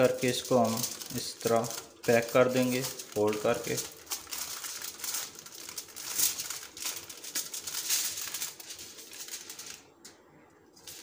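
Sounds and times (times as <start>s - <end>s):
aluminium foil crinkling: 0.0s - 10.1s, 10.8s - 11.0s.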